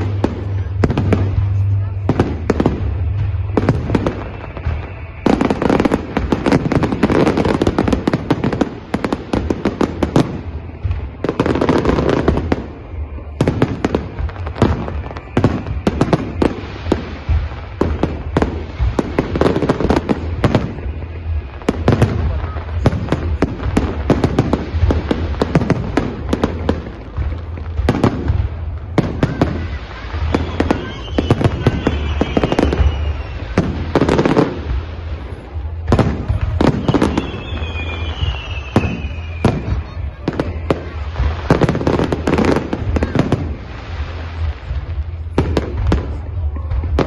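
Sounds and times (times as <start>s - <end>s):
firework bangs and crackling: 0.0s - 47.0s
falling firework whistles: 2.4s - 26.6s, 27.9s - 34.6s, 36.2s - 43.6s.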